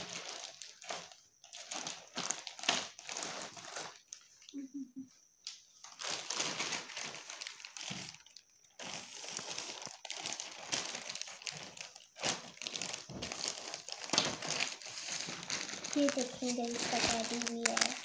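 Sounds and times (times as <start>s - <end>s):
plastic bag crinkling: 0.0s - 4.6s, 5.8s - 18.0s.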